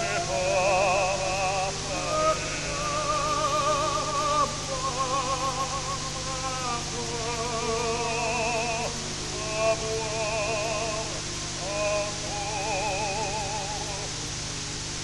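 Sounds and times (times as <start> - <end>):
slow held chords with vibrato: 0.0 - 15.0
steady hiss and low hum: 0.0 - 15.0.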